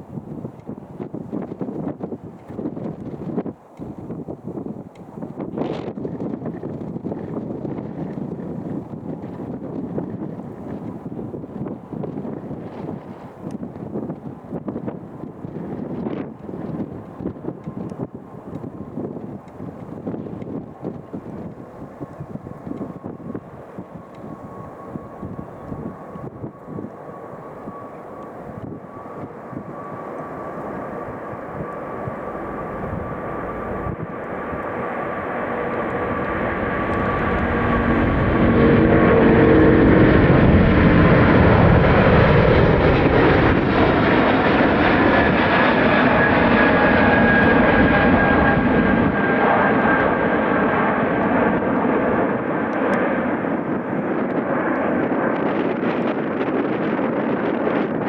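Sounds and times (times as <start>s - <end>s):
jet engines roaring: 0.0s - 58.0s
wind buffeting microphone: 0.0s - 58.0s.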